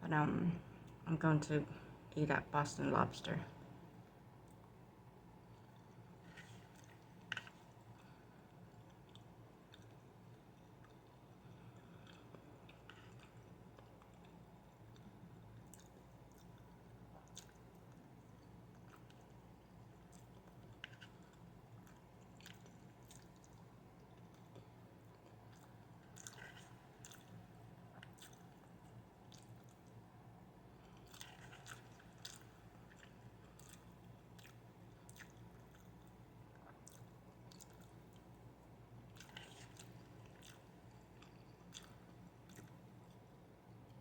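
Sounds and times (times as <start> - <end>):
steady low hum: 0.0 - 44.0
person chewing food: 3.8 - 44.0.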